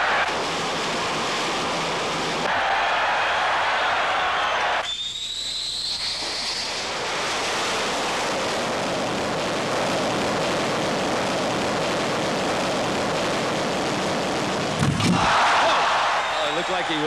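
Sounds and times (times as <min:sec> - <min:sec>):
jet engine whine and thrust: 0:00.0 - 0:02.7, 0:03.3 - 0:17.0.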